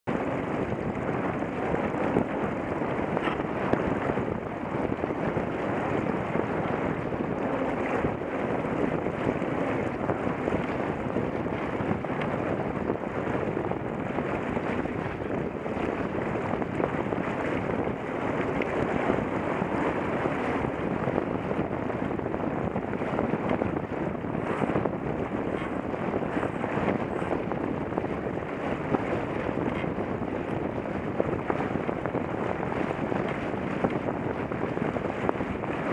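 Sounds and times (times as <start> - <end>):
wind rushing on microphone: 0.0 - 35.9.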